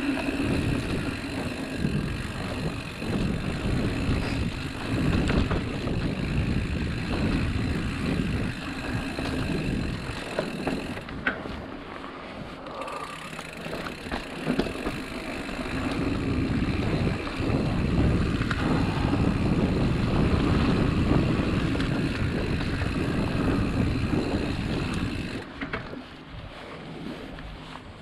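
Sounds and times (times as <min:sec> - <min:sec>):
bike rattling: 0:00.0 - 0:28.0
bike tyres rumbling on dirt: 0:00.0 - 0:28.0
wind on microphone: 0:00.0 - 0:28.0.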